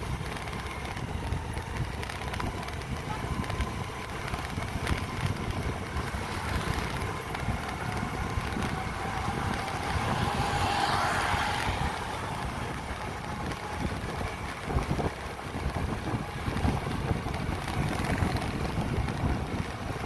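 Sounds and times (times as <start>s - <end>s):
road and traffic rumble: 0.0s - 20.0s
wind buffeting microphone: 0.0s - 20.0s.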